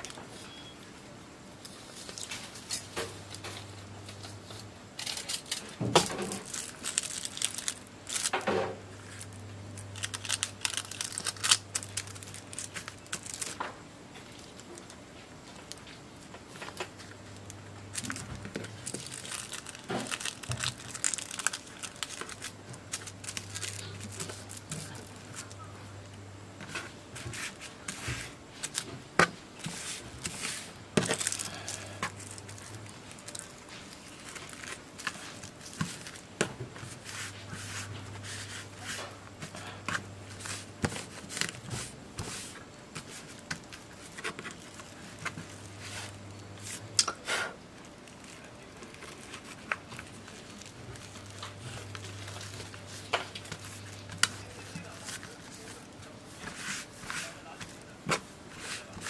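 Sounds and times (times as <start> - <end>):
hands rustling and scraping cells: 9.0 - 46.9, 47.9 - 59.0.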